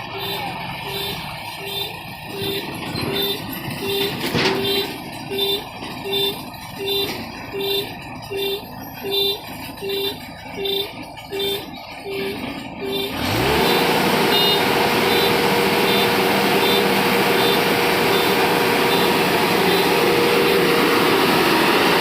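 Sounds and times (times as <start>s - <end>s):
short warning beeps: 0.0s - 20.7s
harvester running: 0.0s - 22.0s.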